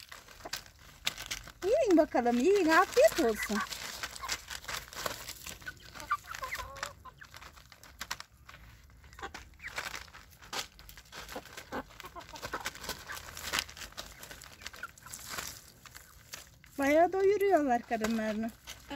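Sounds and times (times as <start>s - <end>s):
hens clucking: 1.6s - 18.9s.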